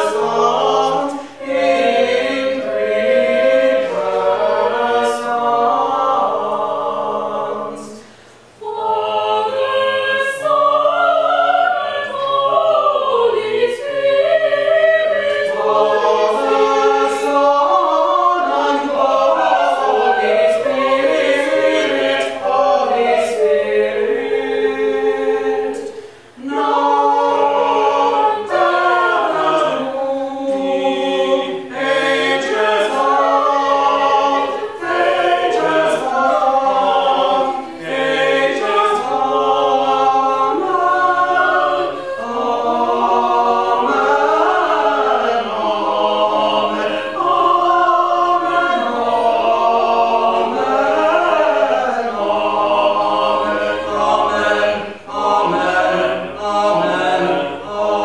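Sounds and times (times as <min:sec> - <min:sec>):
mixed voices singing in harmony: 0:00.0 - 0:58.0.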